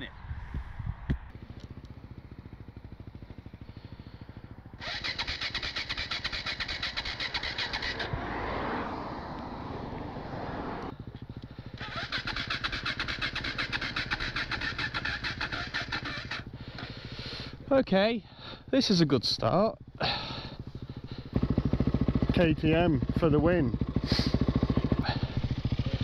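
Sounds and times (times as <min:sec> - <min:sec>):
dirt bike engine running: 0:01.1 - 0:26.0.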